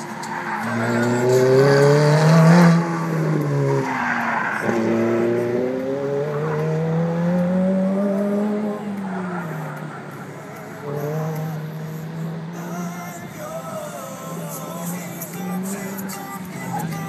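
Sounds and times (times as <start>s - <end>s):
sports car engine revving: 0.0s - 17.0s.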